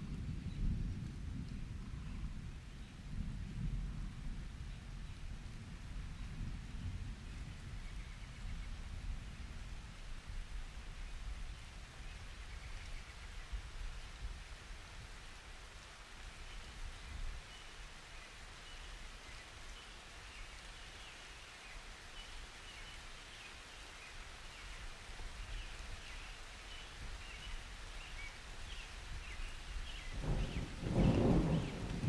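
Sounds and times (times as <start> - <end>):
steady rain: 0.0 - 32.0.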